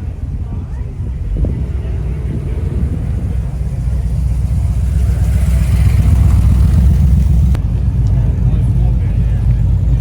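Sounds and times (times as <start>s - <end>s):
car engine with deep exhaust rumble: 0.0s - 10.0s.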